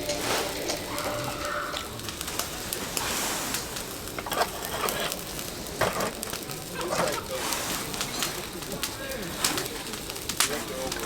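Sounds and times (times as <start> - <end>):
raindrops tapping: 0.0 - 11.0
steady rain: 0.0 - 11.0.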